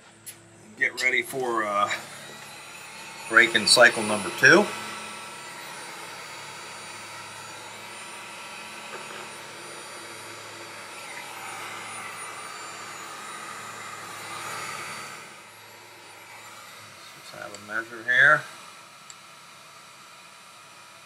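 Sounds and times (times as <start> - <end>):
heat gun blowing: 0.0 - 21.0.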